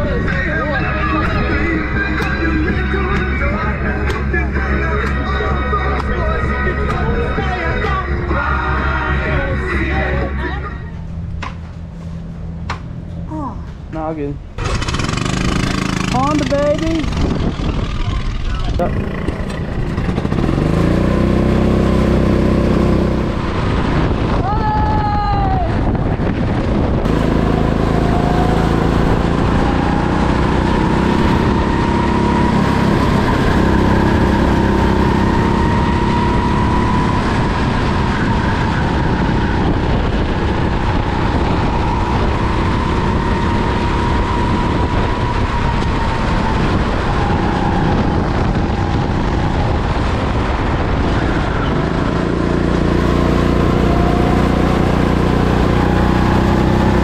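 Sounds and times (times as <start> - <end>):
go-kart engine running: 0.0 - 11.6, 14.5 - 24.6, 25.6 - 57.0.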